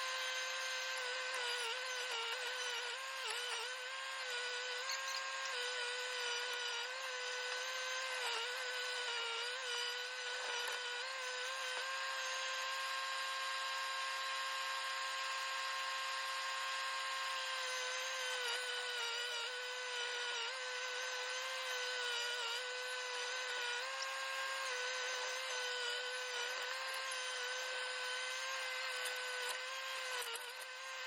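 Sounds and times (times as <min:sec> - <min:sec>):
high-pitched hydraulic auger whine: 0:00.0 - 0:31.0.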